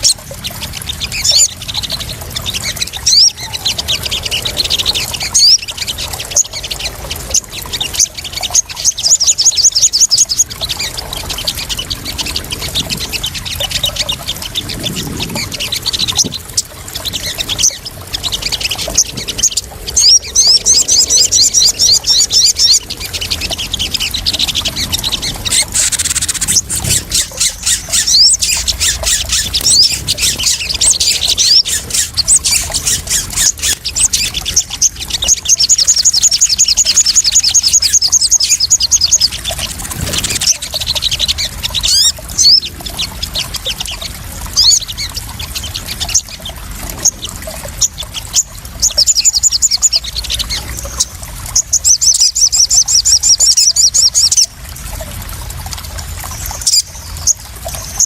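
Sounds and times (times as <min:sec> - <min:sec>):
bird calling in high trills: 0:00.0 - 0:54.6
splashing water: 0:00.0 - 0:58.0.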